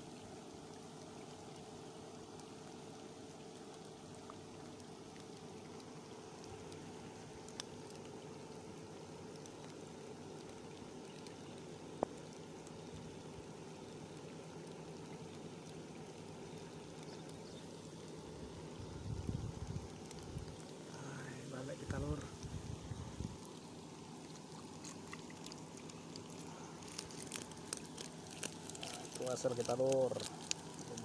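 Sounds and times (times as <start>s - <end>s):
heavy rain on water: 2.8s - 31.0s.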